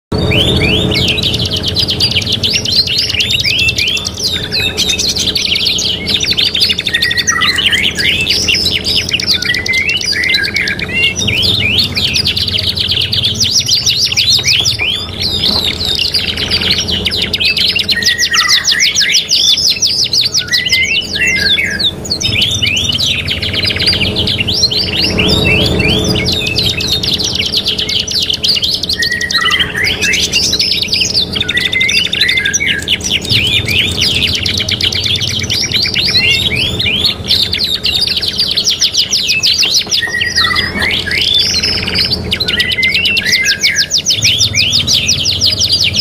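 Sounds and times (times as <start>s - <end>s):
canary trills: 0.1s - 46.0s
songbirds singing: 0.1s - 46.0s.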